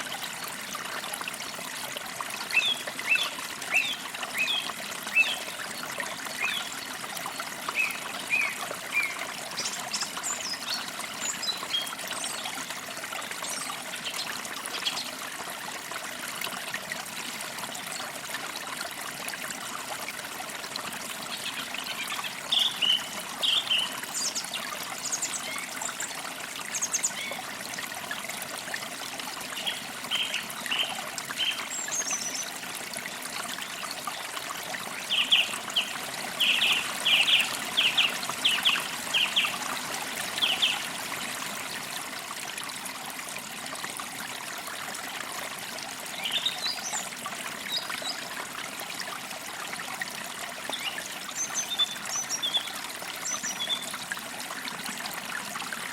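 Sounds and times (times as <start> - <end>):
creek trickling and babbling: 0.0 - 55.9.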